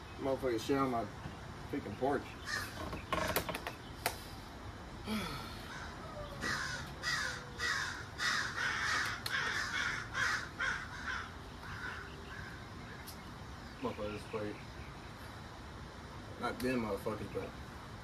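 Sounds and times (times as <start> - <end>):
birds calling repeatedly: 0.0 - 18.0.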